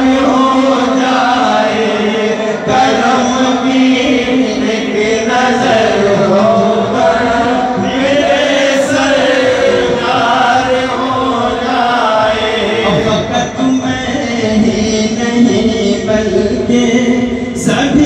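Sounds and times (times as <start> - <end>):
man chanting into microphone: 0.0 - 18.0.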